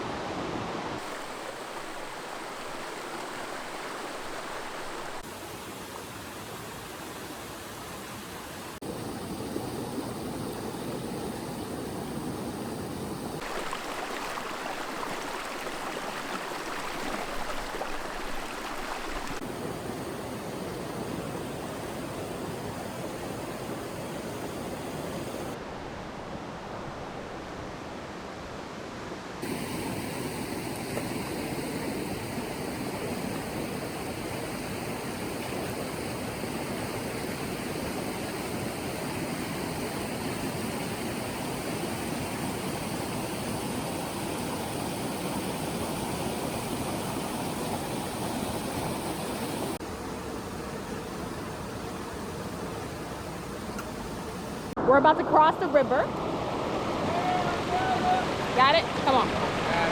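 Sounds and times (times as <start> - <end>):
rushing river water: 0.0 - 59.9.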